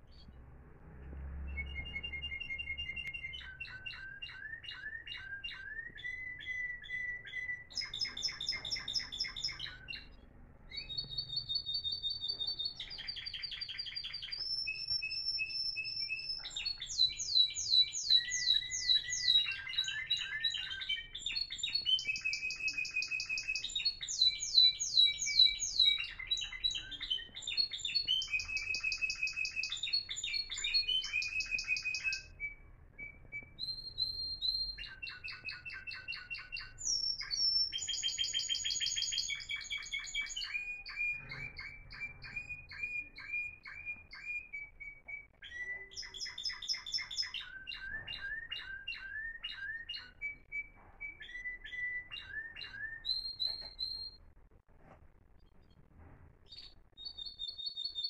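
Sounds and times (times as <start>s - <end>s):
canaries singing trills: 0.0s - 58.0s.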